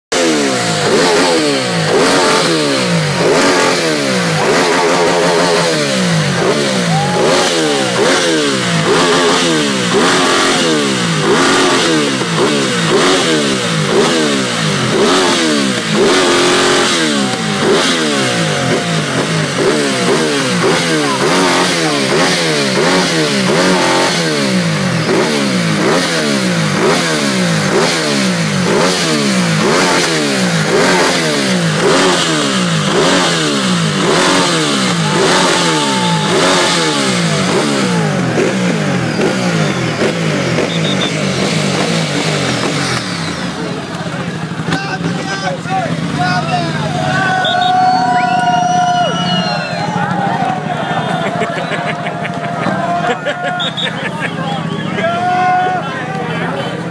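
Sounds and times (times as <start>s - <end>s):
motorcycle engines revving: 0.0s - 56.9s.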